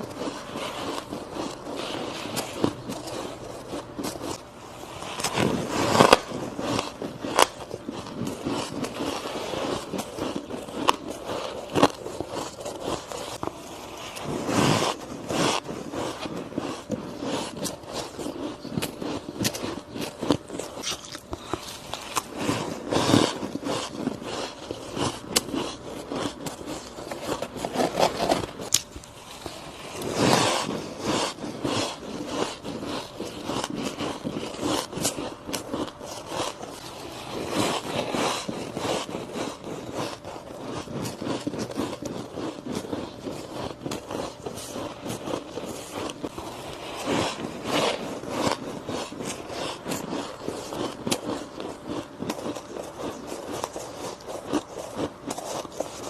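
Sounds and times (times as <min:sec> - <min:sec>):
crunching and chewing ice: 0:00.0 - 0:56.0.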